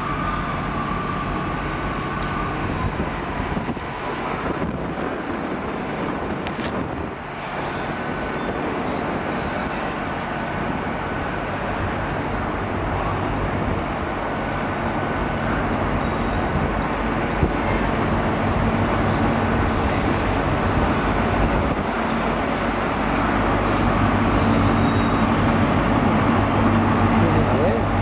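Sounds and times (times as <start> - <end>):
diesel train engine humming: 0.0 - 28.0.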